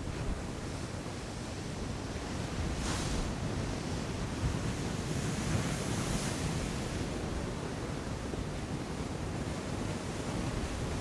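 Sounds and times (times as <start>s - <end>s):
low rumble of surf: 0.0s - 11.0s
wind on microphone: 0.0s - 11.0s.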